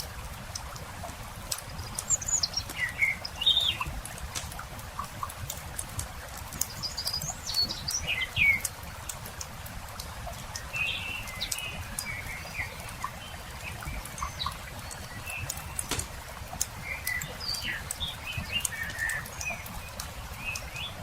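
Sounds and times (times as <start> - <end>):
campfire crackling and popping: 0.0 - 21.0
small birds chirping: 0.6 - 9.2, 10.3 - 21.0.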